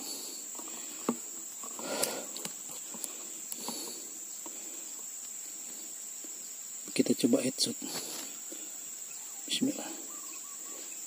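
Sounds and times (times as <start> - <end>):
insects droning: 0.0 - 11.0
rustle: 0.0 - 11.0.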